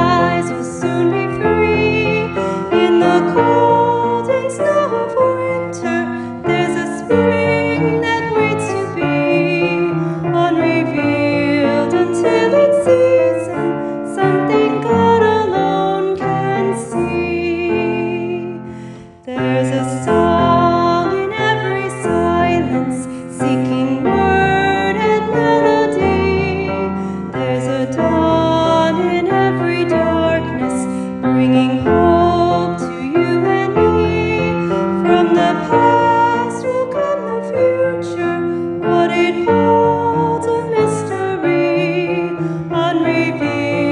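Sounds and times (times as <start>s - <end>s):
person singing: 0.0s - 18.6s, 19.3s - 43.9s
piano: 0.0s - 43.9s.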